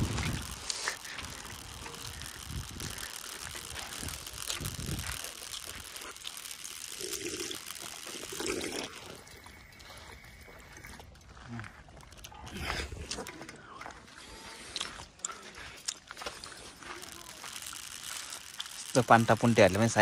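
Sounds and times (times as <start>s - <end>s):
drinking fountain water splashing: 0.0s - 12.4s, 13.8s - 20.0s.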